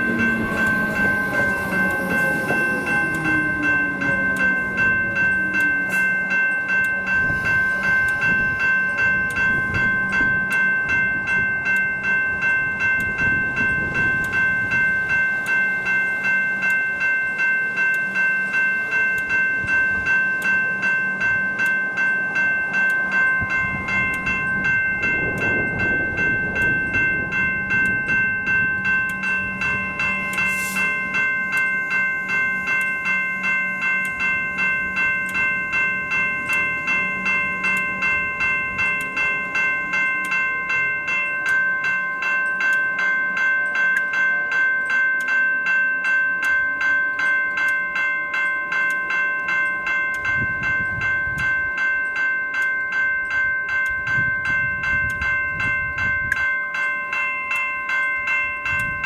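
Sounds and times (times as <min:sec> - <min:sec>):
level crossing bell ringing: 0:00.0 - 0:59.0.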